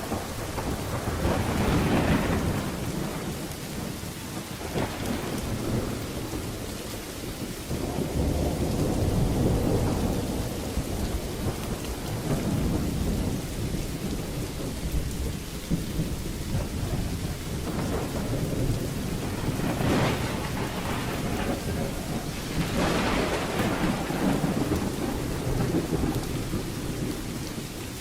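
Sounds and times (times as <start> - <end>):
steady rain falling: 0.0 - 28.0
thunder rumbling: 0.0 - 28.0.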